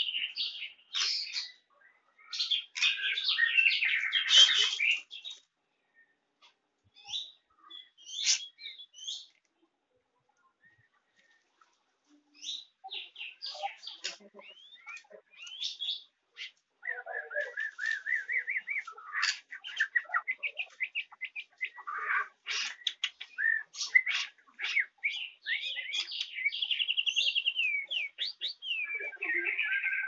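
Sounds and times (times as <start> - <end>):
bird chirping and twittering: 0.0 - 6.2, 6.9 - 9.4, 12.2 - 30.0.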